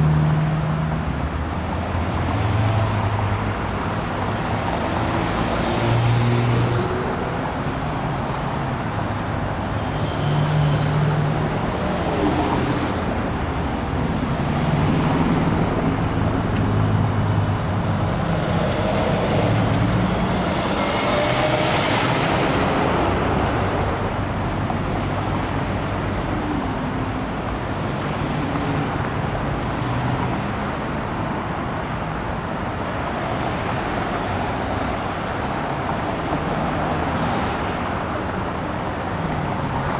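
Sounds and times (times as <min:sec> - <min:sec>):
cars and trucks passing at speed: 0:00.0 - 0:39.9.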